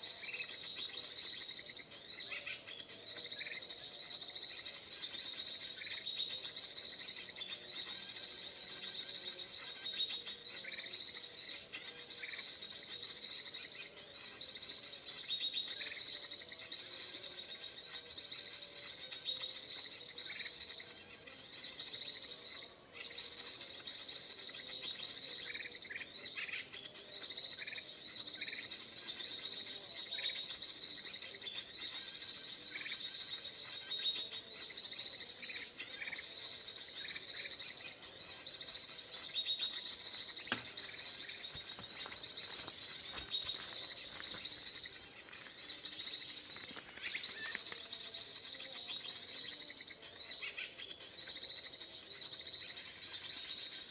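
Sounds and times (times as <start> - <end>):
recorded bird song through speaker: 0.0 - 53.9.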